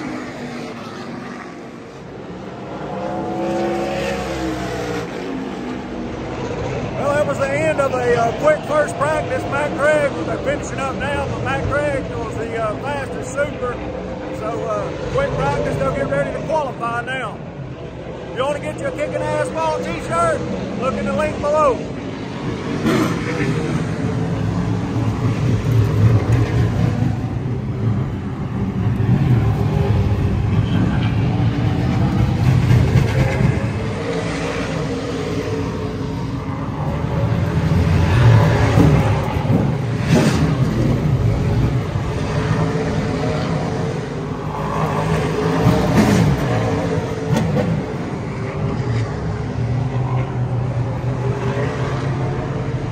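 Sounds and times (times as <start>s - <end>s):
race car engines rolling past: 0.0s - 52.9s.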